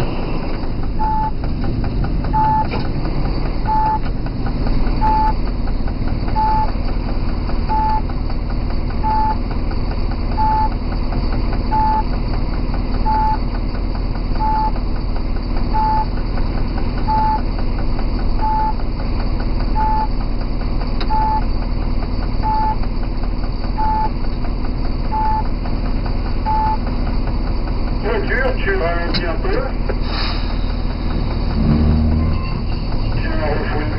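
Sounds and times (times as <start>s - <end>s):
diesel locomotive engine humming: 0.0s - 33.9s.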